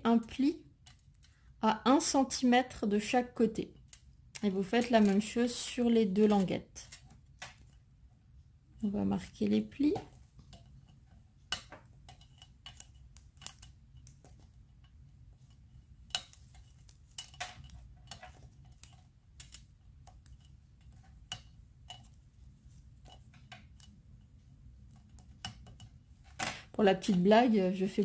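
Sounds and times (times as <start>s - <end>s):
faint steady low hum: 0.0s - 28.0s.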